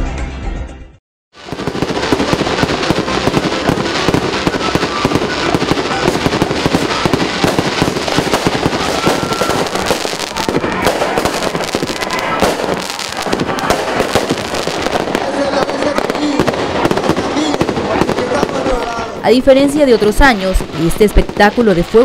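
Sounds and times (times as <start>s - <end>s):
fireworks bangs and crackling: 1.4s - 22.0s.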